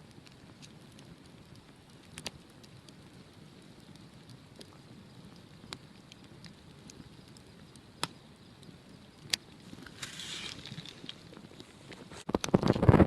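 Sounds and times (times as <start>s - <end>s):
campfire crackling: 0.0s - 13.0s
fire popping: 0.0s - 13.0s.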